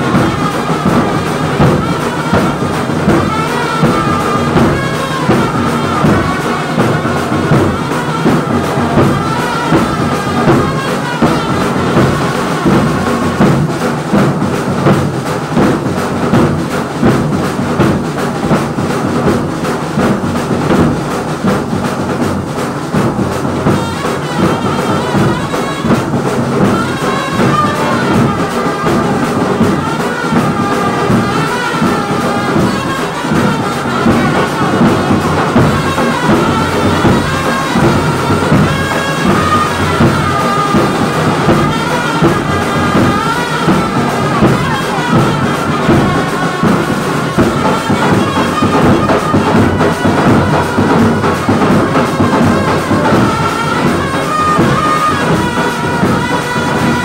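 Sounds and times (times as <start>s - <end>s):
trumpets and trombones playing: 0.0s - 16.8s, 23.3s - 57.0s
bass drum beat: 0.0s - 57.0s
drums: 0.0s - 57.0s.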